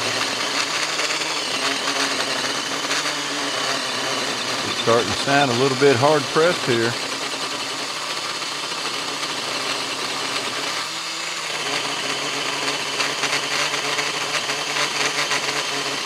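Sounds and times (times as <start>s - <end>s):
electric saw motor whine: 0.0s - 16.0s.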